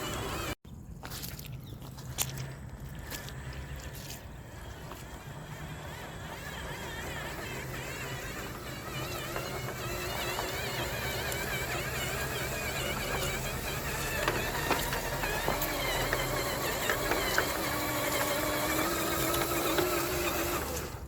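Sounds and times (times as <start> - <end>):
rc truck electric motor whining: 0.0 - 0.6, 2.9 - 21.0.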